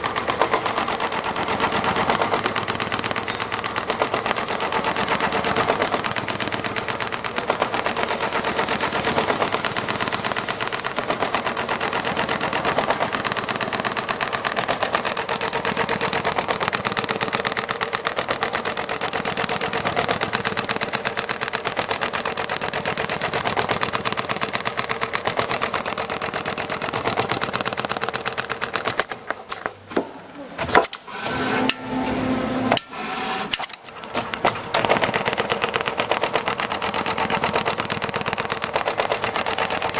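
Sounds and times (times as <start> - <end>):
sewing machine stitching leather: 0.0 - 30.0, 30.6 - 39.9.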